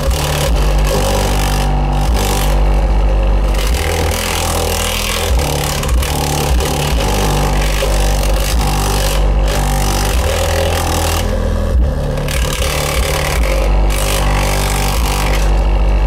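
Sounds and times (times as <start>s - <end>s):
deep bass pounding from car subwoofer: 0.0s - 16.0s
loud music bass from subwoofer: 0.0s - 16.0s.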